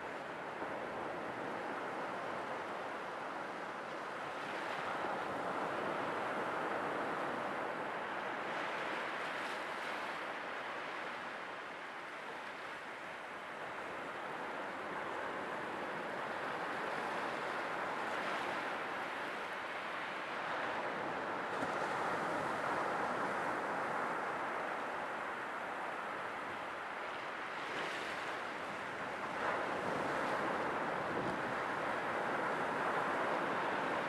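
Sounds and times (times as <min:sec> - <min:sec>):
sea waves washing ashore: 0:00.0 - 0:34.0.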